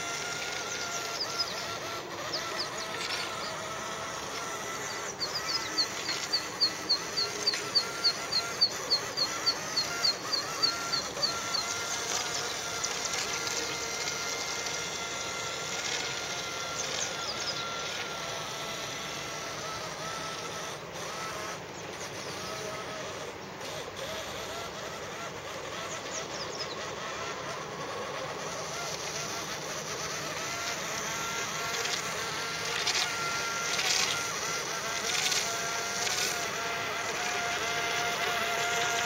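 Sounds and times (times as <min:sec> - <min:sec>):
buzzing electric motor and propeller: 0:00.0 - 0:39.0.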